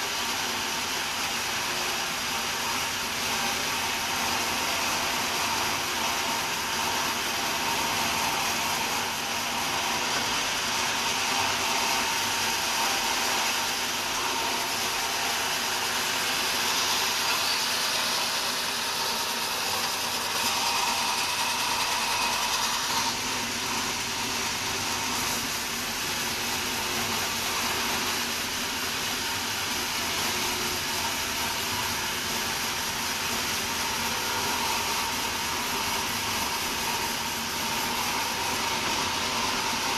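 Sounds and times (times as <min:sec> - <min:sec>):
saw cutting through wood: 0:00.0 - 0:39.9.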